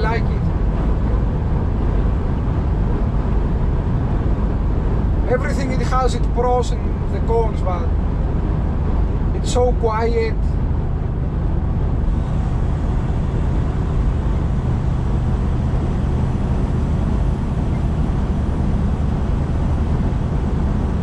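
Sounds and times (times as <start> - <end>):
road noise: 0.0 - 21.0
truck diesel engine drone: 0.0 - 21.0.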